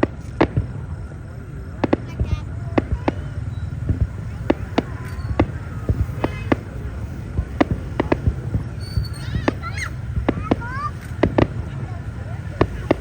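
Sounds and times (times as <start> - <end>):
firework whistles: 0.0 - 13.0
fireworks bangs: 0.0 - 13.0
low rumble: 0.0 - 13.0.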